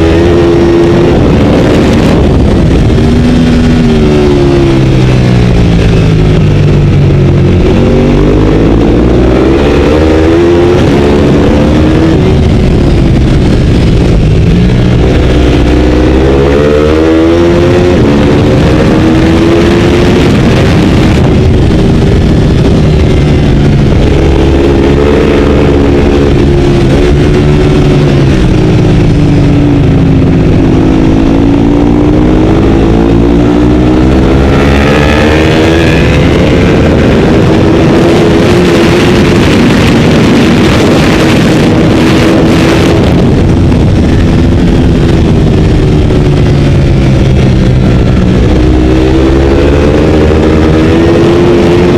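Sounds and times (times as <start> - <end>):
motorcycle engine: 0.0 - 51.9
wind rushing: 0.0 - 51.9.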